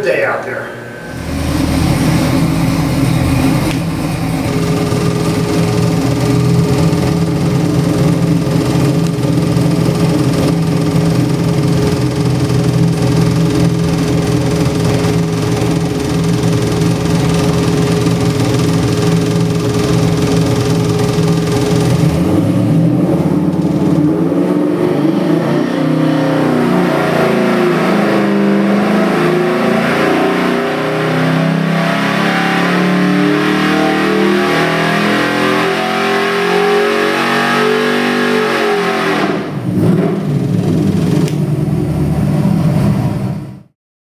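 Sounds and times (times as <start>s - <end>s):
engine revving on dyno: 0.9s - 43.7s.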